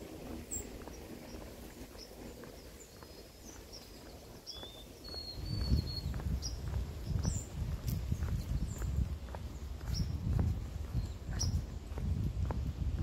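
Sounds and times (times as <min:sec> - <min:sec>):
small birds chirping: 0:00.0 - 0:12.8
footsteps on a path: 0:00.0 - 0:13.0.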